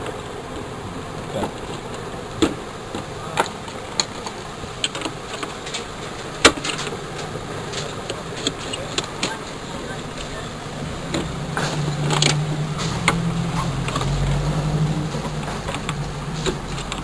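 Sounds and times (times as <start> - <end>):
steady background hum: 0.0 - 17.0
battery wiring clicks and knocks: 1.4 - 10.4, 11.0 - 17.0.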